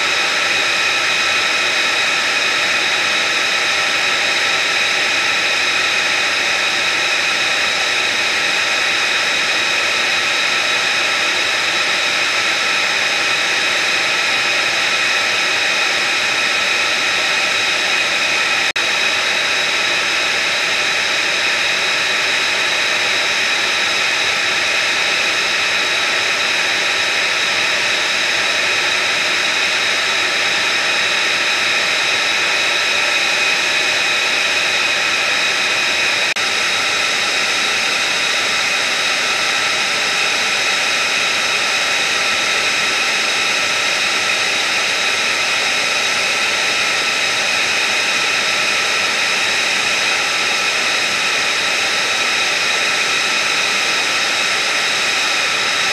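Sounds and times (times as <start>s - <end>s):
jet turbine idling: 0.0s - 55.9s.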